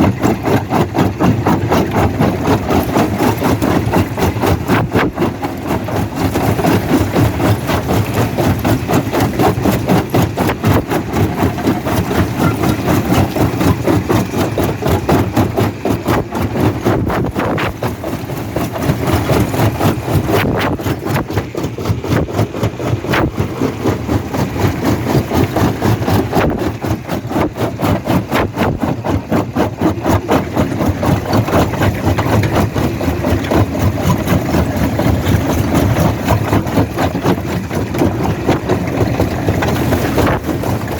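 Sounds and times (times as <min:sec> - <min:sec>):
repeated clattering knocks: 0:00.0 - 0:40.9
stone crushing machine running: 0:00.0 - 0:40.9.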